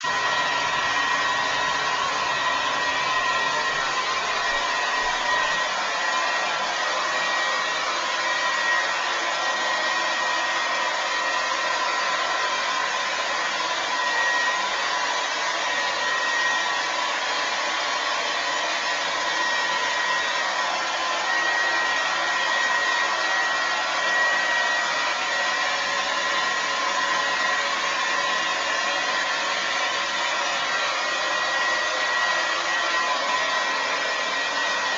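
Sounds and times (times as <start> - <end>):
hair dryer running: 0.0 - 34.9.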